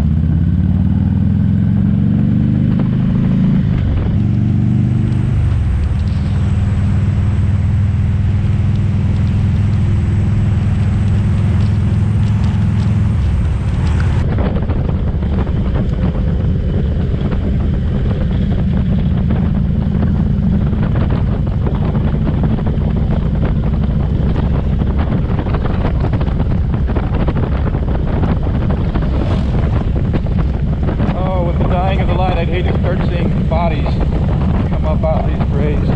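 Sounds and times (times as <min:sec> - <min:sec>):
motorcycle engine running: 0:00.0 - 0:35.9
wind on microphone: 0:00.0 - 0:35.9.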